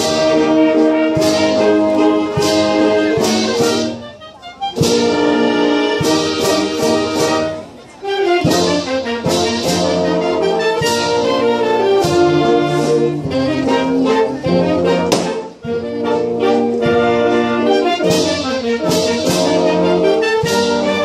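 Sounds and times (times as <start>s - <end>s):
brass band playing: 0.0s - 21.0s.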